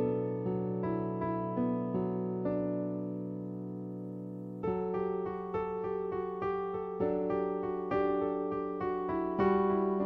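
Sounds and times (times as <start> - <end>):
electric piano music: 0.0 - 10.0.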